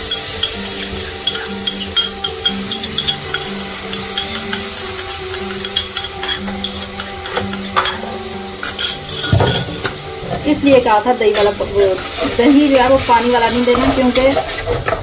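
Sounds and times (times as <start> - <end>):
masala sizzling in a pan: 0.0 - 15.0
spoon stirring and scraping: 0.0 - 15.0.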